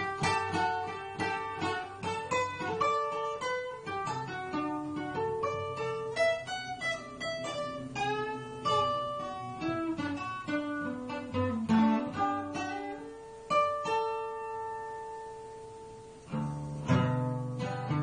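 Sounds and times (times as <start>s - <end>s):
acoustic guitar picked melody: 0.0s - 18.0s
guitar strummed chords: 0.0s - 18.0s.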